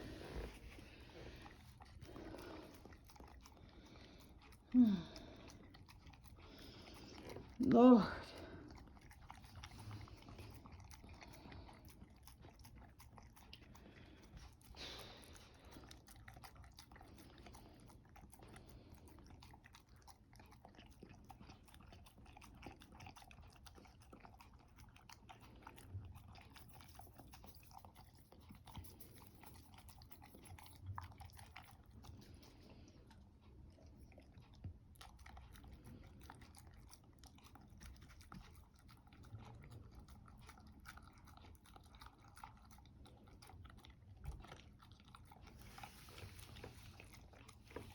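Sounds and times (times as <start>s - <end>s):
dog crunching food: 0.0s - 7.6s, 8.3s - 47.9s.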